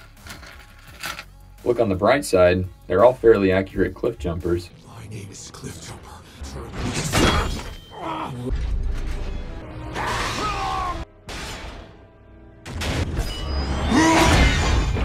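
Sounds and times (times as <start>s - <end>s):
action music: 0.0s - 15.0s.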